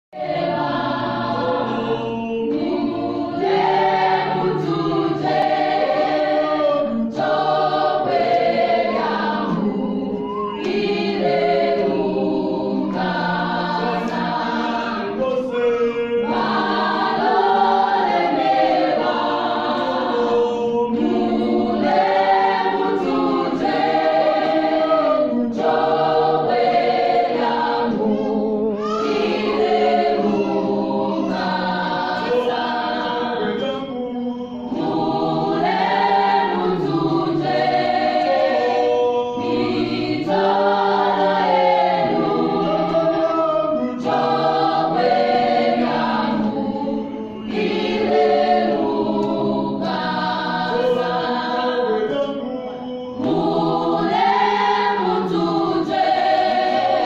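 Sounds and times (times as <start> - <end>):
choir singing a gospel hymn: 0.1 - 57.0.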